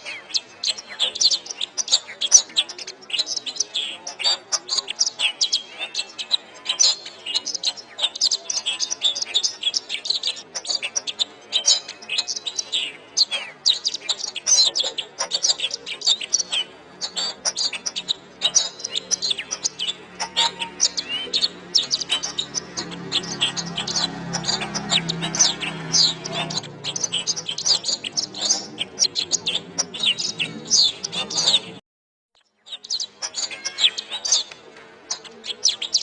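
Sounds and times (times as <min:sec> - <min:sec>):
canary singing: 0:00.0 - 0:31.8, 0:32.4 - 0:36.0.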